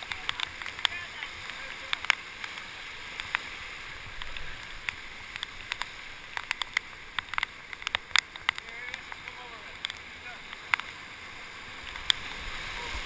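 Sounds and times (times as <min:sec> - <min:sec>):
rushing river whitewater: 0:00.0 - 0:13.0
water splashes and ticks: 0:00.0 - 0:13.0.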